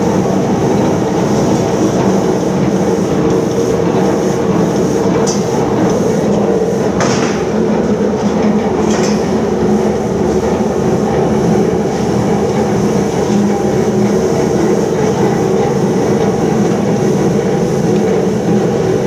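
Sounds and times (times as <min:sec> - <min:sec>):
roll mill running: 0:00.0 - 0:19.0.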